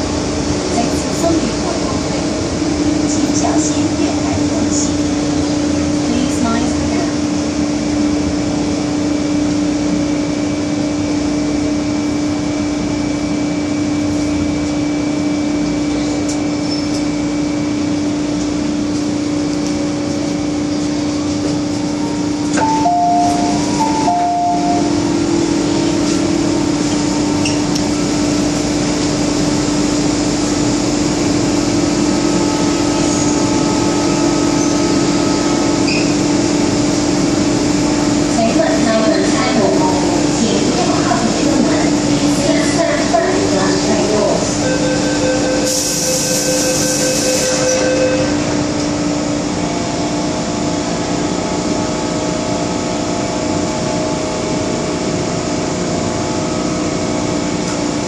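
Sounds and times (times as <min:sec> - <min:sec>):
train running hum: 0:00.0 - 0:58.0.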